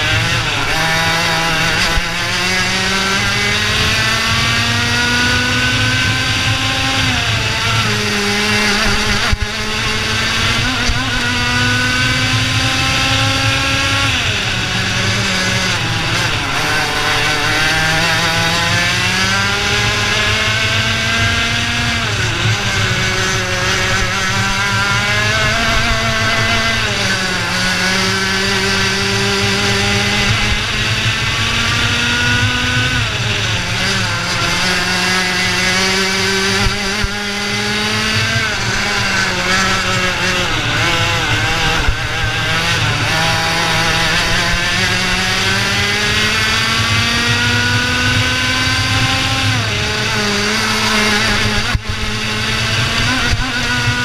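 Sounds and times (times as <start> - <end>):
kart engine at racing speed: 0.0 - 54.0.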